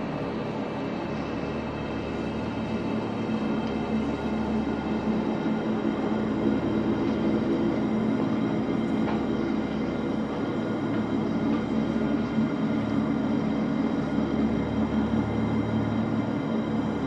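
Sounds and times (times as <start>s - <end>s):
dark ambient drone: 0.0s - 17.0s.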